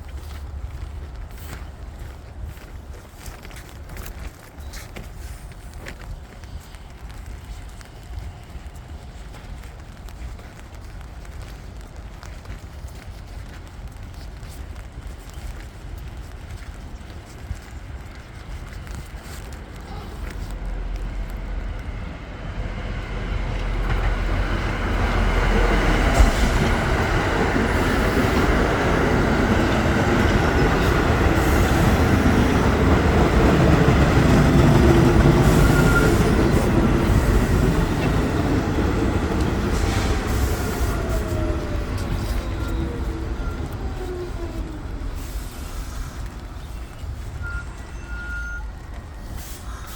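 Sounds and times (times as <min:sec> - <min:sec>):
train passing: 0:00.0 - 0:49.9.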